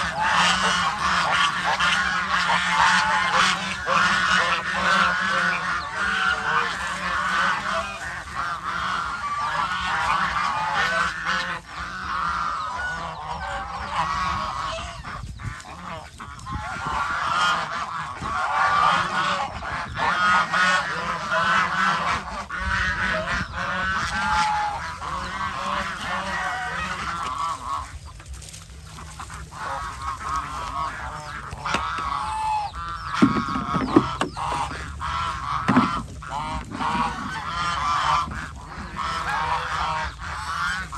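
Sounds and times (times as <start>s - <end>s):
geese honking: 0.0s - 40.9s.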